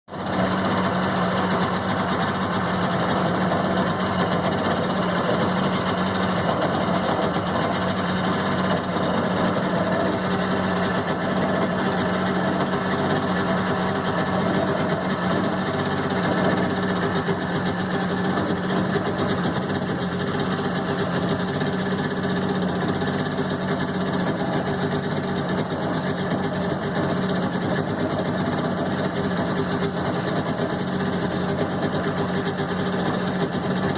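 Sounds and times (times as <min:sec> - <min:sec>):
boat engine running: 0:00.0 - 0:33.9.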